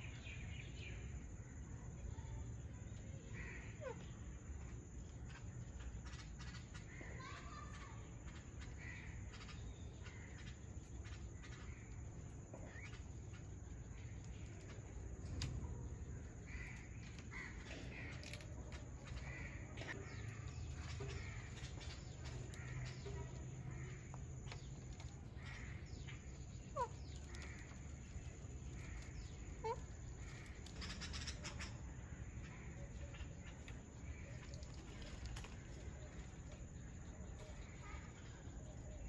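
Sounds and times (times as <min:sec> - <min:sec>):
soft bird calls: 0:00.0 - 0:39.0.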